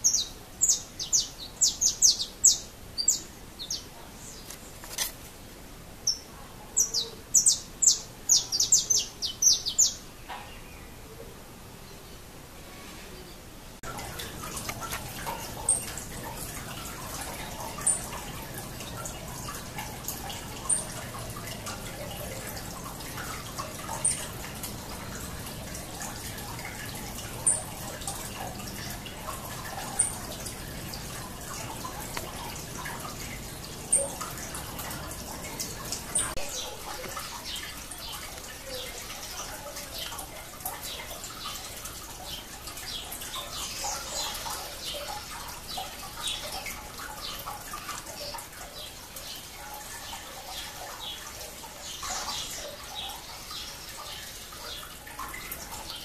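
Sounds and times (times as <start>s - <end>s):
water dripping and trickling: 0.0s - 5.3s, 6.8s - 10.0s, 13.8s - 56.0s.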